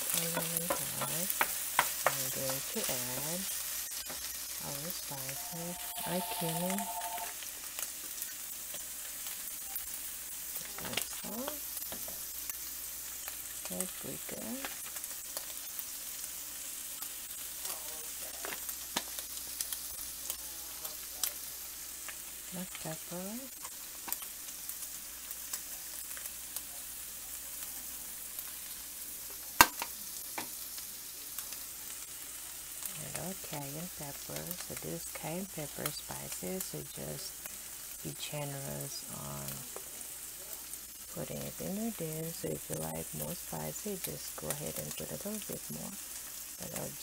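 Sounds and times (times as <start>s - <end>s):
meat and onion sizzling in a pan: 0.0s - 47.0s.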